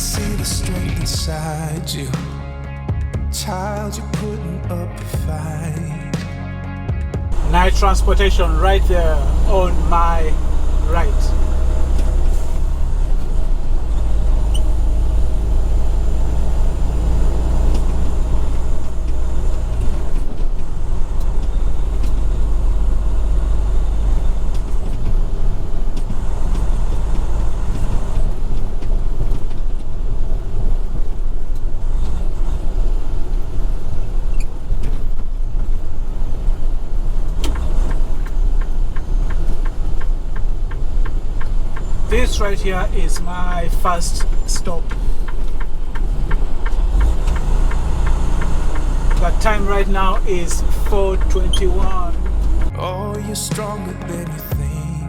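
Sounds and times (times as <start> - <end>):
truck engine and road rumble: 0.0 - 54.4
regular ticking: 7.3 - 52.7.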